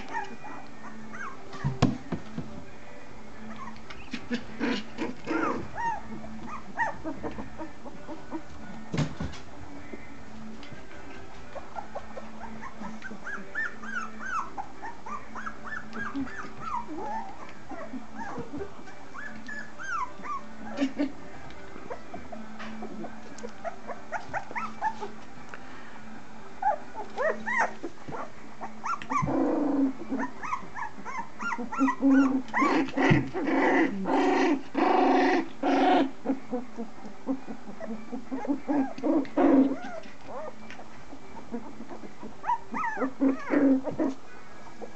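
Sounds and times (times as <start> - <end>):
puppies growling and yapping: 0.0 - 2.0, 3.4 - 8.8, 11.3 - 25.4, 26.4 - 44.9
puppies squeaking and whining: 0.0 - 2.0, 3.4 - 8.8, 11.4 - 21.1, 21.8 - 25.3, 26.6 - 44.9.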